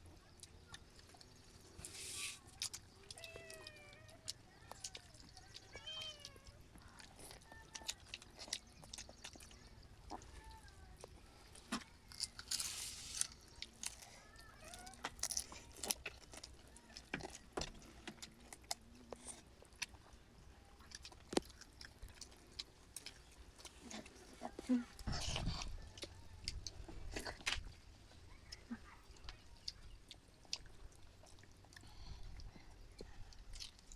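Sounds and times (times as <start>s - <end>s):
person chewing crunchy food: 0.1s - 33.9s.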